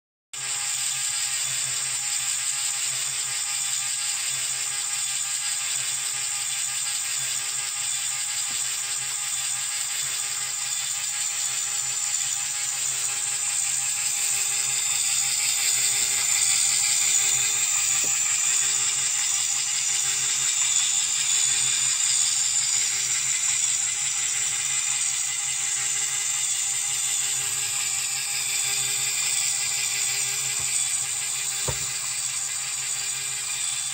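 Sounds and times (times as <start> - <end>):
small motor gears whirring and clattering: 0.4 - 33.9.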